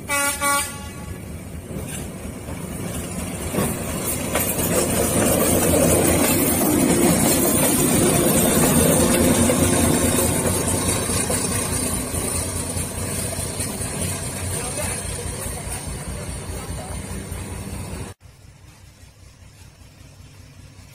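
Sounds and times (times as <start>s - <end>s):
diesel locomotive rumbling: 0.0s - 20.9s.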